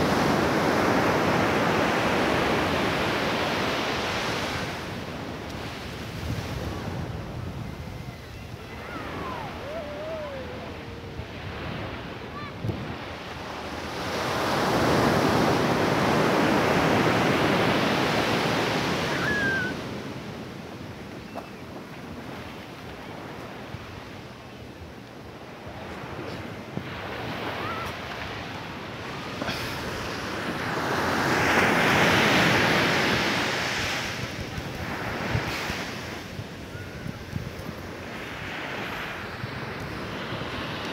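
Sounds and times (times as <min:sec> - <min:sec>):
small waves breaking on sand: 0:00.0 - 0:40.9.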